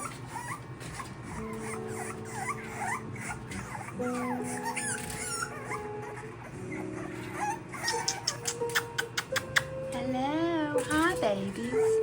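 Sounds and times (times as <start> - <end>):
puppies whimpering and squeaking: 0.0 - 12.0.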